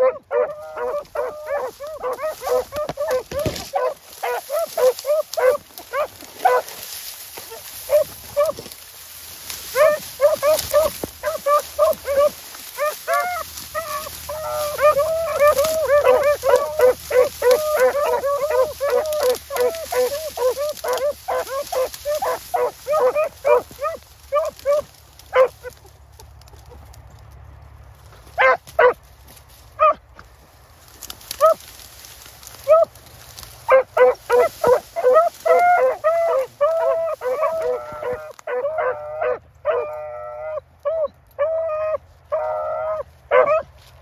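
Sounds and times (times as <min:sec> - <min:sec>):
yelping barks: 0:00.0 - 0:08.7, 0:09.6 - 0:26.8, 0:28.4 - 0:29.0, 0:31.4 - 0:31.6, 0:32.6 - 0:32.9, 0:33.7 - 0:43.7
hounds baying: 0:00.0 - 0:27.2, 0:28.1 - 0:29.1, 0:29.7 - 0:30.3, 0:31.0 - 0:43.9.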